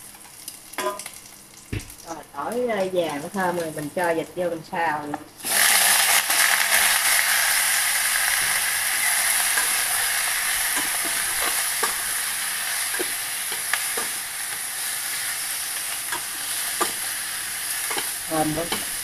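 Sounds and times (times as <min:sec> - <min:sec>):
meat sizzling in oil: 0:00.0 - 0:04.0, 0:05.4 - 0:19.0.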